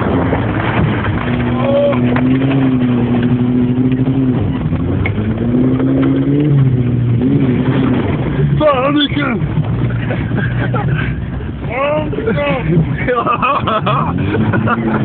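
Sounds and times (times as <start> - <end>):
car engine at high revs: 0.0 - 15.0
constant rushing noise: 0.0 - 15.0.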